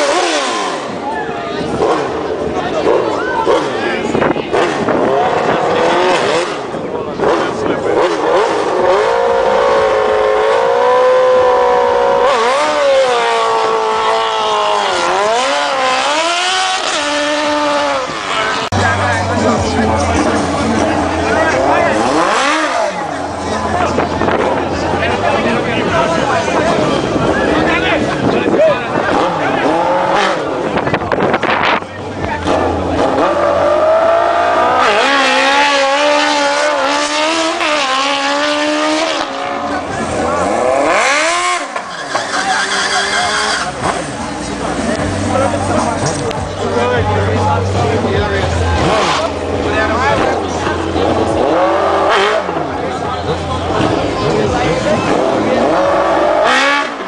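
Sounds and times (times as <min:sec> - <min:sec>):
vehicle engine at high revs: 0:00.0 - 0:57.0.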